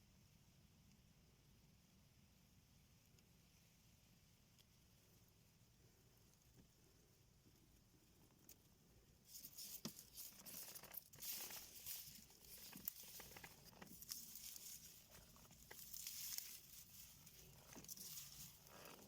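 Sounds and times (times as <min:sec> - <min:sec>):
faint rustling and crinkling: 0:02.7 - 0:19.0.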